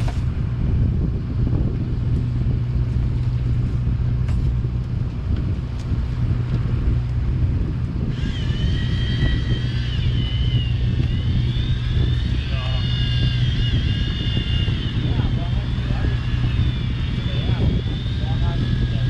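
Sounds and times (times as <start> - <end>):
boat engine humming: 0.0 - 19.0
high wavering whine: 0.0 - 19.0.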